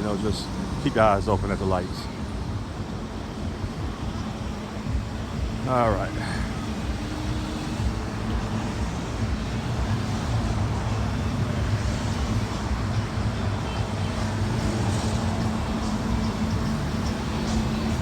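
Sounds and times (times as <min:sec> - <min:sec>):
motor vehicle engines humming: 0:00.0 - 0:18.0.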